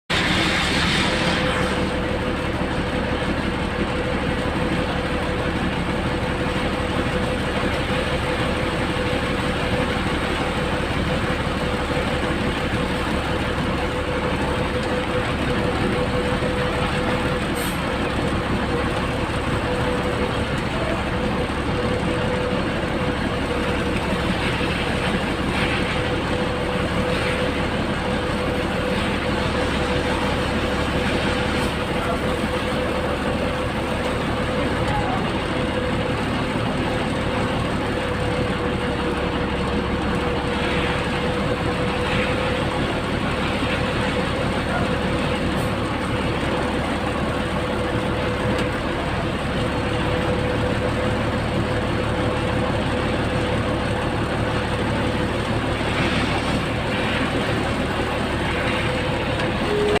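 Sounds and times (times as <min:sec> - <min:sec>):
heavy truck engine and road noise: 0:00.0 - 1:00.0
constant whining tone: 0:00.8 - 1:00.0.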